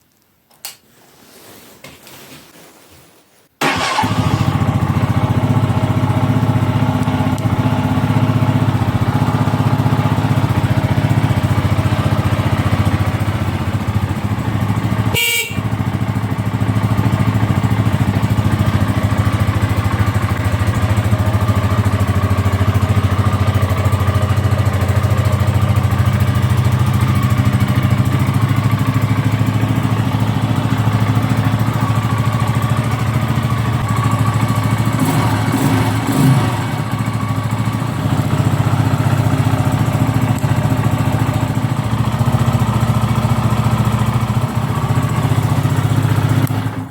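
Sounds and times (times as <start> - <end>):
motorcycle engine idling: 3.6 - 46.9.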